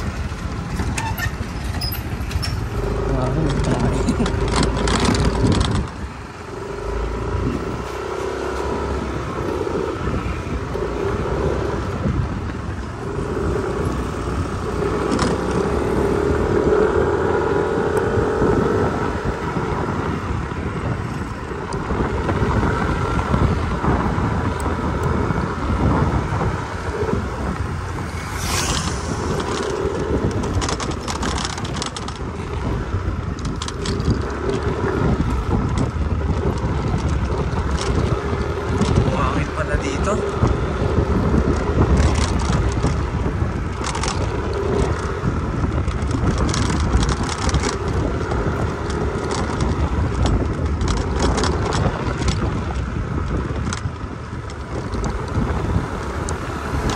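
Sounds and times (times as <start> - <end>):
scooter engine droning: 0.0 - 56.9
wind buffeting microphone: 0.0 - 56.9.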